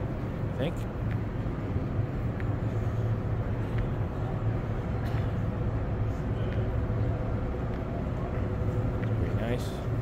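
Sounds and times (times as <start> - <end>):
low hum and rumble of hall: 0.0 - 10.0.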